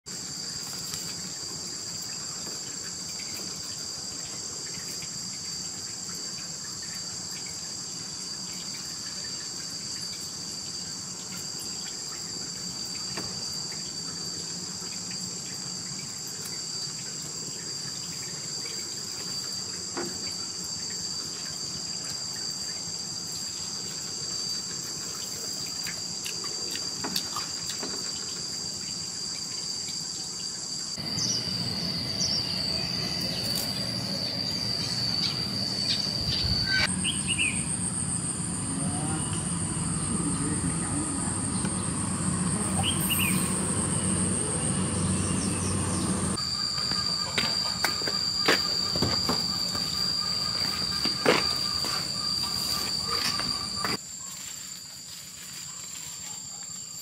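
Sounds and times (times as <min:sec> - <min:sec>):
insect chorus drone: 0:00.1 - 0:57.0.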